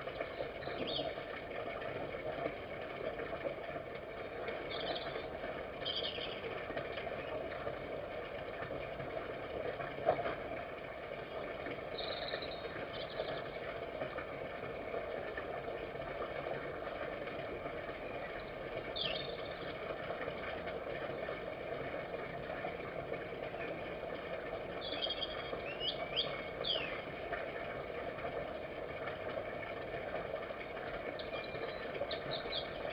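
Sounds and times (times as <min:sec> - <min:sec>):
steady background hum: 0:00.0 - 0:32.9.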